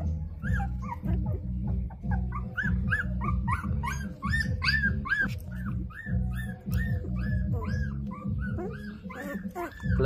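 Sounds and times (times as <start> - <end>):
background music: 0.0 - 10.0
puppies whimpering: 0.0 - 10.0.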